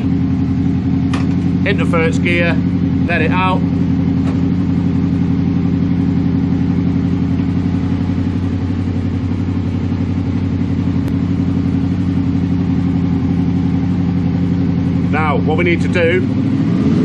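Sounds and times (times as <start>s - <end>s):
motorcycle engine idling: 0.0s - 16.7s.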